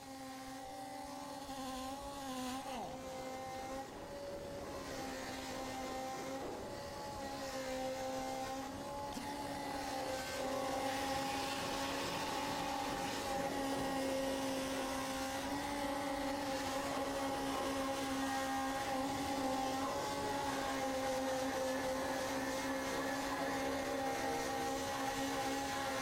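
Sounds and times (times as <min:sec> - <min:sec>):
power sanders whining on steel: 0:00.0 - 0:26.0.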